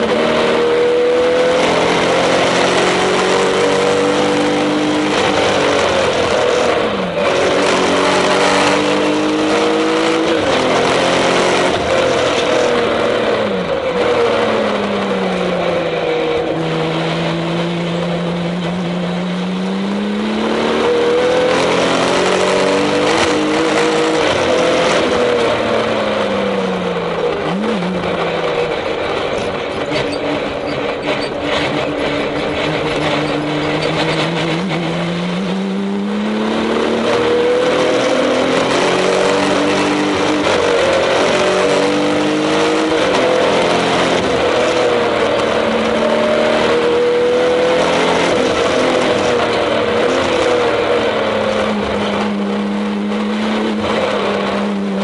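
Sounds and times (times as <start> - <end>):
car engine from inside cabin: 0.0 - 55.0
wind and tyre noise: 0.0 - 55.0.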